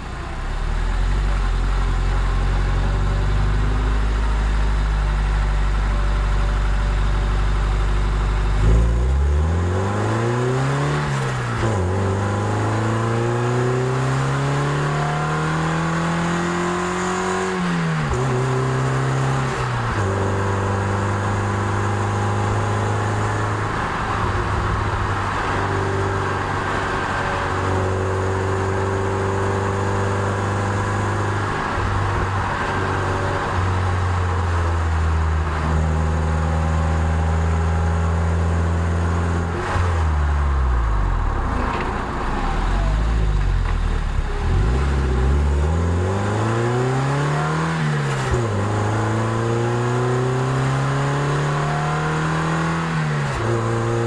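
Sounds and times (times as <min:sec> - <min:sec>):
car engine revving through gears: 0:00.0 - 0:54.0.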